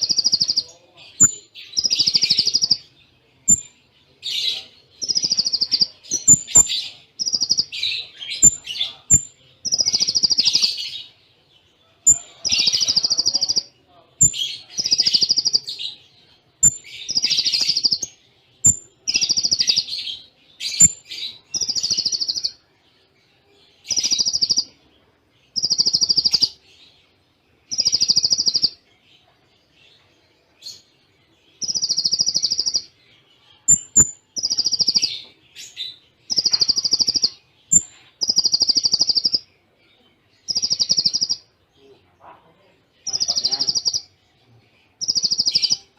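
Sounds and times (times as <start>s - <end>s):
sunbird singing rapid song: 0.0s - 45.9s.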